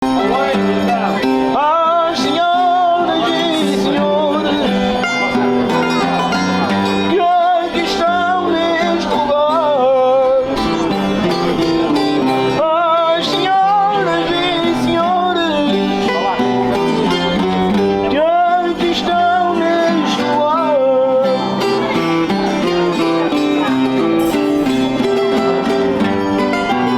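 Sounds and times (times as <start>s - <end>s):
person folk singing: 0.0s - 26.9s
plucked string instruments: 0.0s - 26.9s.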